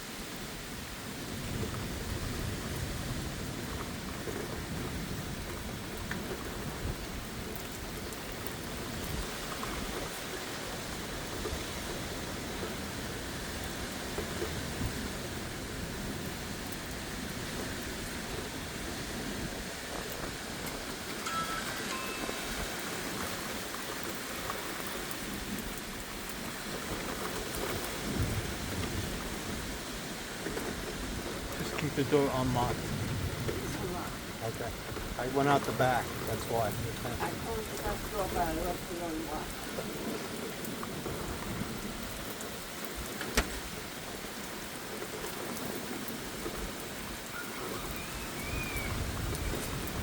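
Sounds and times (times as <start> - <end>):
steady rain: 0.0 - 50.0
ticks of raindrops: 0.1 - 50.0
thunder rumbling: 1.1 - 50.0.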